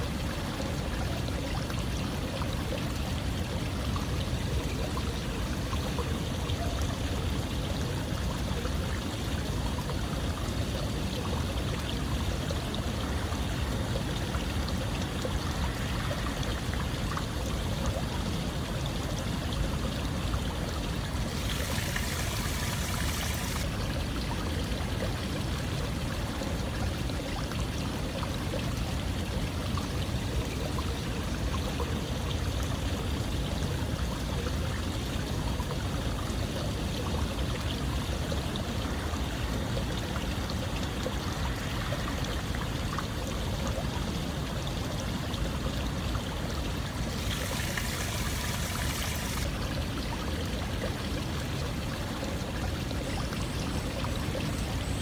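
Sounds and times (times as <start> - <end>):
water flowing: 0.0 - 33.2, 35.2 - 55.0.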